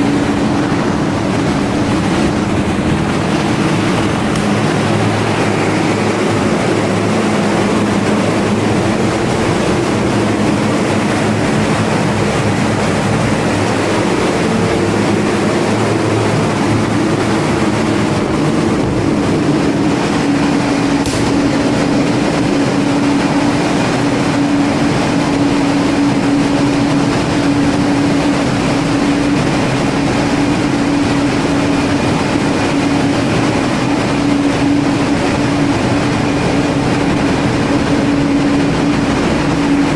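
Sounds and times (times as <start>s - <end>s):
engine room machinery hum: 0.0s - 39.9s.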